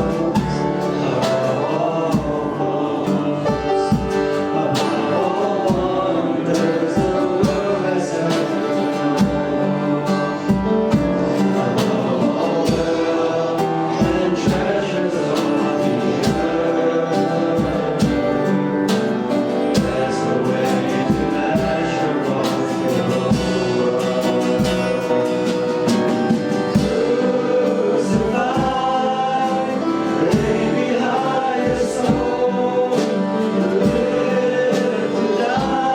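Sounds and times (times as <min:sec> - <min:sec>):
guitar: 0:00.0 - 0:35.9
person singing: 0:00.0 - 0:35.9
steady drum beat: 0:00.0 - 0:35.9.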